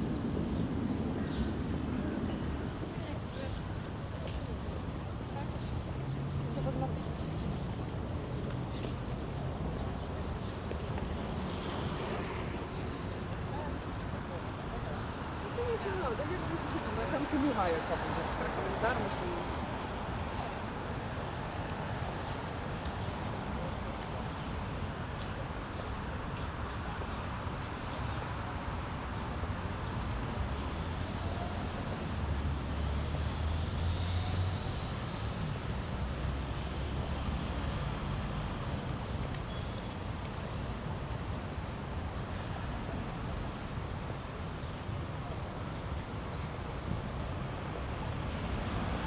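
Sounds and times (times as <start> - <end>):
road vehicles passing: 0.0 - 49.0.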